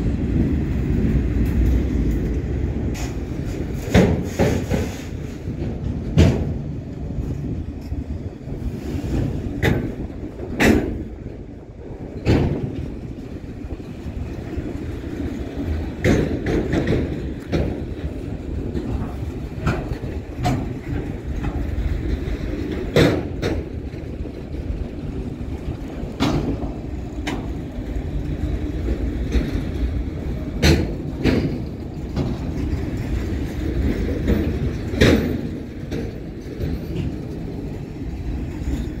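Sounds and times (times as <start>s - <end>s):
steel wheels rumbling on rail: 0.0s - 39.0s
train cars clanking: 0.0s - 39.0s.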